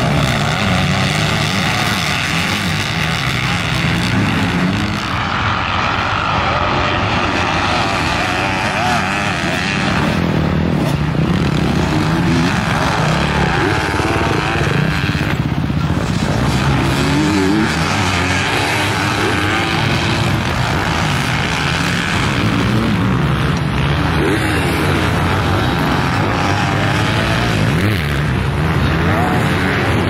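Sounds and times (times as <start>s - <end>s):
motocross engines revving: 0.0s - 30.0s.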